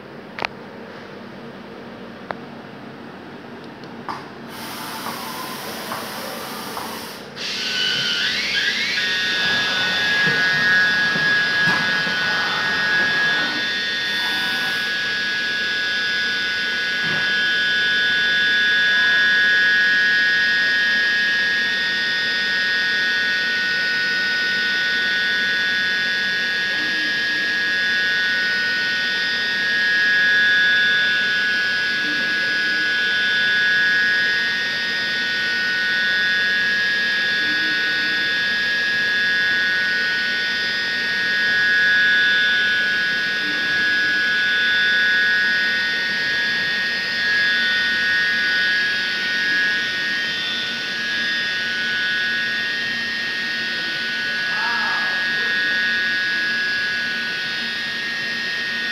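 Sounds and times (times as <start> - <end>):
router spindle whining: 4.5 - 58.9.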